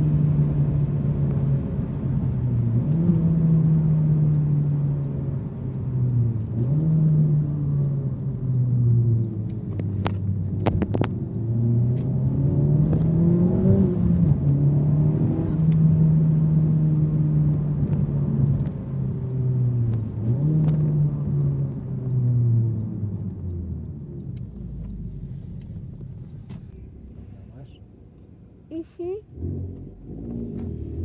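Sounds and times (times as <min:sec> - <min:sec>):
car engine and exhaust driving: 0:00.0 - 0:31.0.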